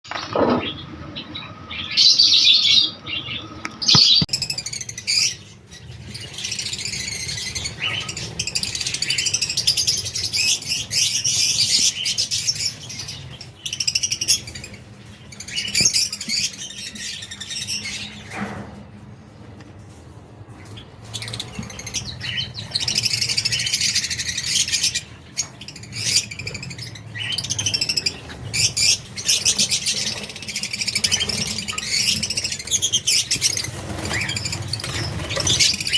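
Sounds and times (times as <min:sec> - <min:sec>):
baby birds cheeping: 0:00.7 - 0:18.4, 0:20.6 - 0:35.9.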